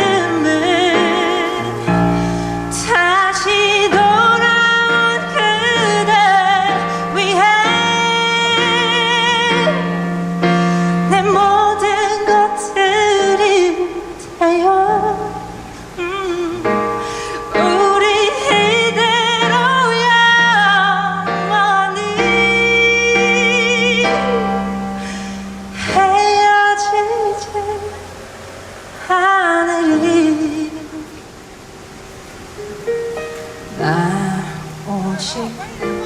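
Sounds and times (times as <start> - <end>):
woman singing a ballad: 0.0 - 28.2, 28.9 - 31.4, 33.5 - 36.0
piano: 0.0 - 36.0.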